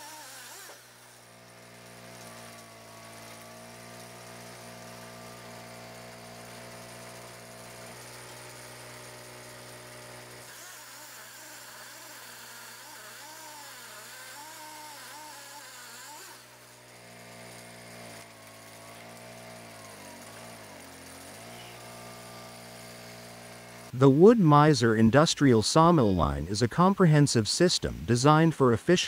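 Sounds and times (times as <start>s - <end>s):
wood-processing machine motor hum: 0.0s - 24.0s.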